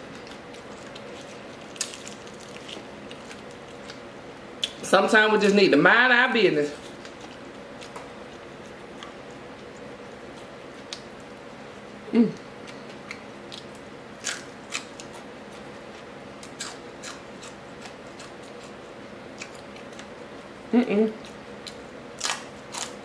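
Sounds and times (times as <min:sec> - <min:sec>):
crunchy food chewing: 0:00.0 - 0:04.8, 0:06.7 - 0:20.6, 0:21.2 - 0:23.0.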